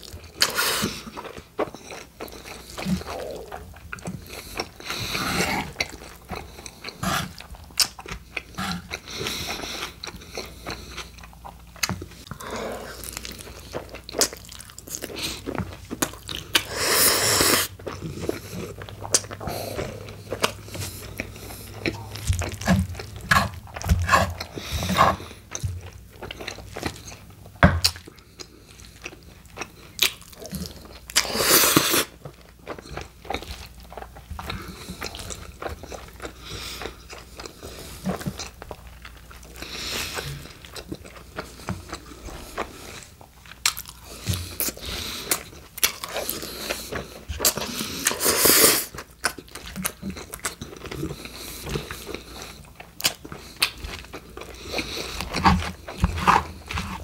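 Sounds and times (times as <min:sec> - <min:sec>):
crunchy chewing: 0:00.0 - 0:57.0
wet chewing mouth sounds: 0:00.0 - 0:57.0.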